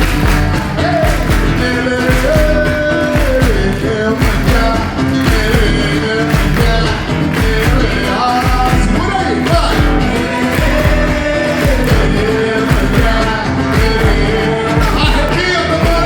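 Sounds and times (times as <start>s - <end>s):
drum ensemble playing: 0.0s - 16.0s
people singing: 0.0s - 16.0s.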